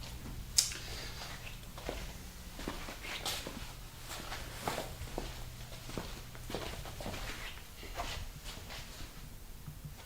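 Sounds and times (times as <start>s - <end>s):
footsteps: 0.0s - 10.0s
low steady hum: 0.0s - 10.0s.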